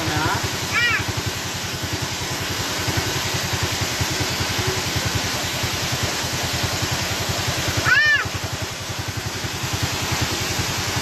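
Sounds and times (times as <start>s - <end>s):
small engine idling: 0.0s - 11.0s
small waterfall rushing: 0.0s - 11.0s.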